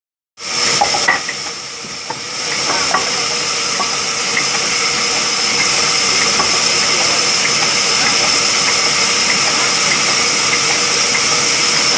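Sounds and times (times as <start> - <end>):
band saw running: 0.4 - 11.9.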